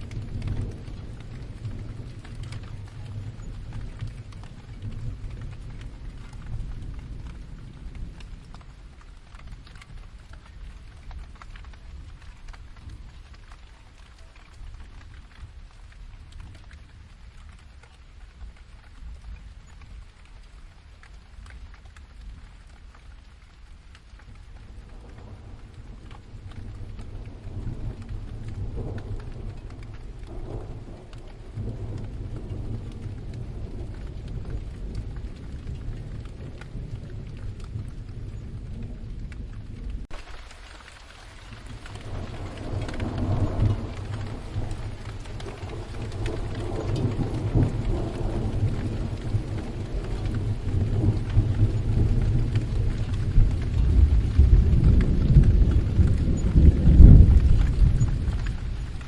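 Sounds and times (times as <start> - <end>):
low rolling thunder: 0.0 - 21.4, 22.2 - 59.0
steady rain: 0.0 - 59.0.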